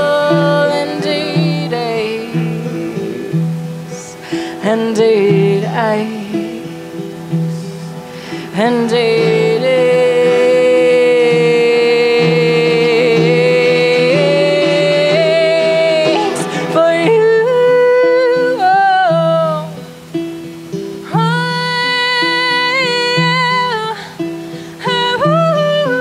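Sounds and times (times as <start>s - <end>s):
strummed guitars: 0.0s - 26.0s
woman singing: 0.0s - 26.0s.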